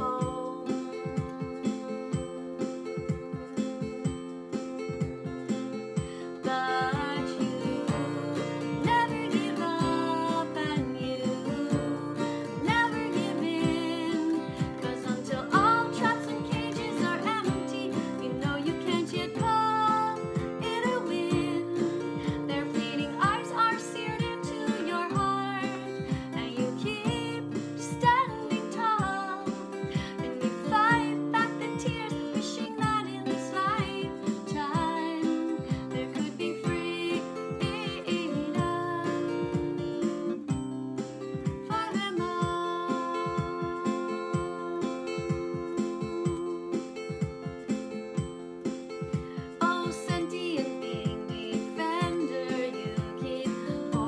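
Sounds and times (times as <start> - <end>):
woman singing: 0.0 - 4.3, 5.8 - 48.4, 49.1 - 54.0
acoustic guitar strumming: 0.0 - 54.0.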